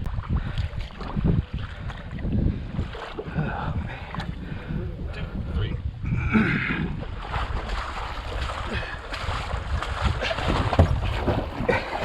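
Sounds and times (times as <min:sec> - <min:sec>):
water splashing and sloshing: 0:00.0 - 0:05.5, 0:06.5 - 0:12.0
wind buffeting microphone: 0:00.0 - 0:12.0.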